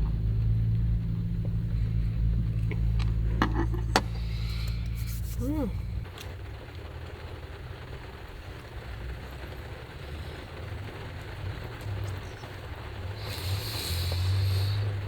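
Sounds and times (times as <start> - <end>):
rain lashing the van: 0.0 - 15.0.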